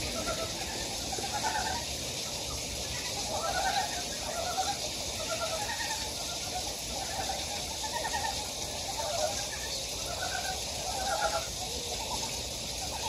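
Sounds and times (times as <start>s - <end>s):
frogs croaking: 0.0s - 13.0s
steady hiss: 0.0s - 13.0s.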